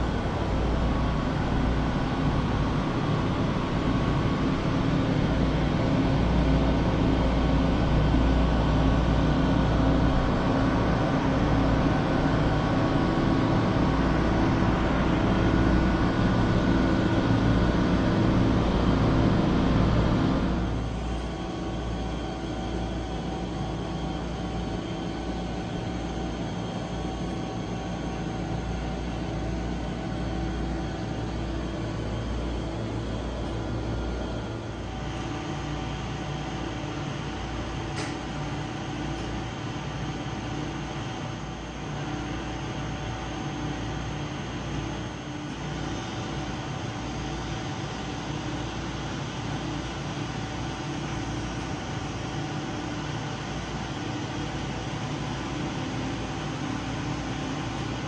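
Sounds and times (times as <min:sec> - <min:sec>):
mechanical drone with hum: 0:00.0 - 0:58.0.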